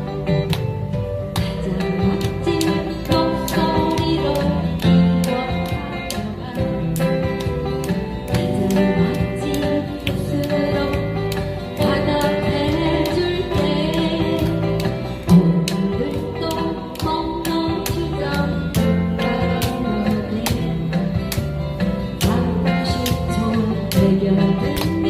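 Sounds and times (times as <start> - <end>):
acoustic guitars strumming: 0.0 - 25.0.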